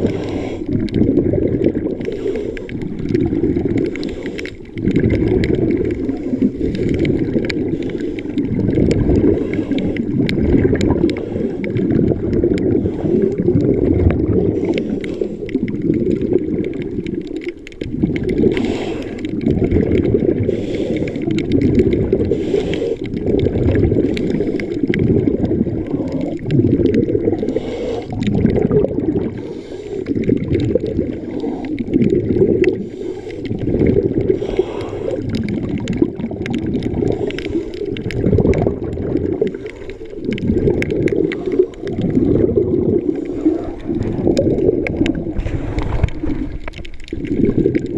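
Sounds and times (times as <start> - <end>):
underwater water churning and sloshing: 0.0 - 47.9
water gurgles: 0.0 - 47.9.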